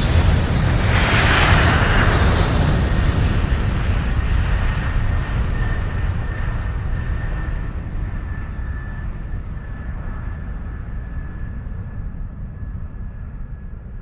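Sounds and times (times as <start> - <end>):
jet aircraft rumble: 0.0 - 14.0.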